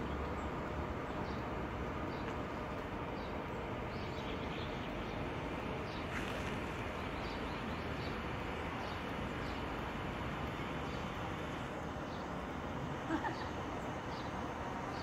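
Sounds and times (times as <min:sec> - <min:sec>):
distant city traffic hum: 0:00.0 - 0:15.0
small birds chirping: 0:00.0 - 0:15.0.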